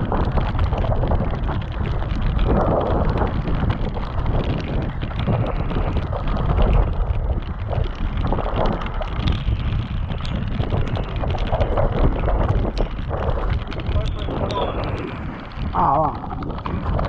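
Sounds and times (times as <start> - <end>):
bike clattering and rattling: 0.0 - 17.0
low rumble of tyres: 0.0 - 17.0
wind buffeting microphone: 0.0 - 17.0.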